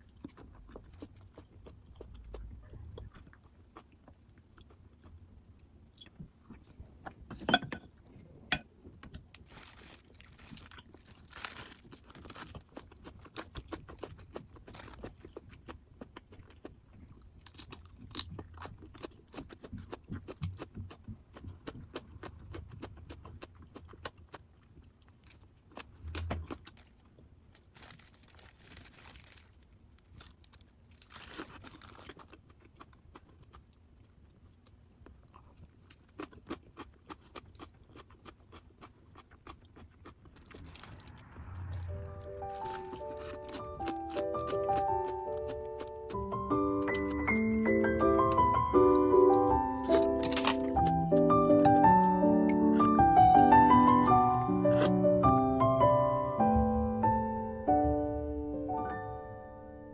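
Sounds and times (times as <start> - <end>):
person chewing and crunching food: 0.0 - 55.1.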